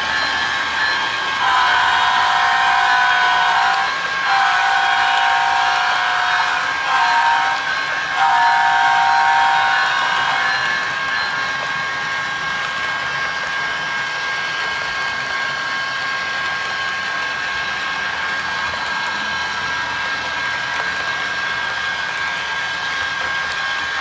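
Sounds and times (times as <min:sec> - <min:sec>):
model train wheels on rail: 0:00.0 - 0:24.0.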